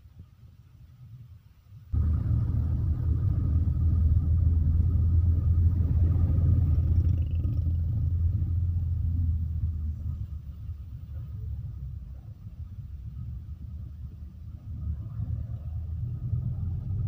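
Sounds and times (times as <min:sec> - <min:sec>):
vehicle engine and road noise: 0:01.9 - 0:17.0.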